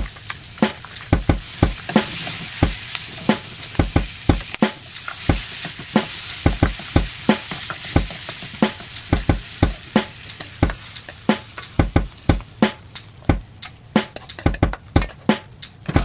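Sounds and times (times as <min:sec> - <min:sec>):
rice sizzling in a pan: 0:00.0 - 0:13.9
utensil knocking on pan: 0:00.0 - 0:16.0.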